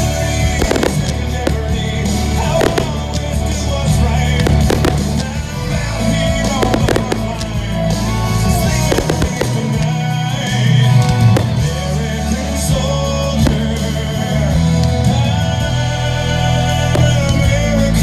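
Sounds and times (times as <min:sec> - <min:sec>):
firework bangs and crackles: 0:00.0 - 0:15.3
loud show music: 0:00.0 - 0:18.0.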